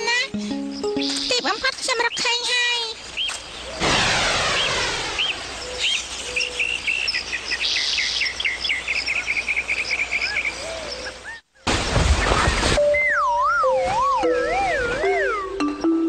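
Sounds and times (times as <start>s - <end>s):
cartoon birds chirping: 0.0s - 16.0s.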